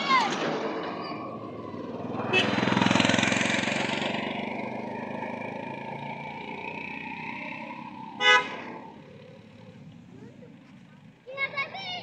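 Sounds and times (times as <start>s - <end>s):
vehicle engine: 0.0s - 12.0s.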